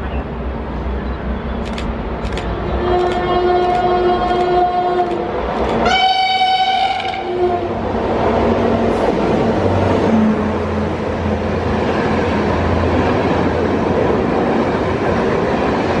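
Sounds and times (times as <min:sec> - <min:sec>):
passenger train passing: 0:00.0 - 0:16.0.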